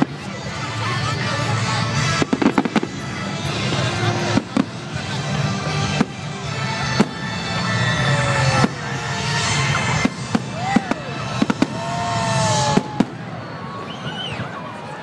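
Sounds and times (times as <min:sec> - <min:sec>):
fireworks bursting with bangs: 0:00.0 - 0:14.2.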